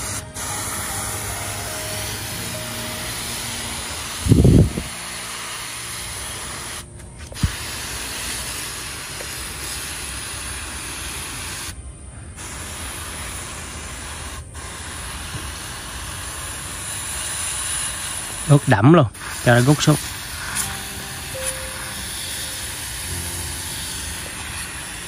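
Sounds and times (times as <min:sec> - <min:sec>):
hand sprayer hissing: 0:00.0 - 0:11.8, 0:12.4 - 0:25.0.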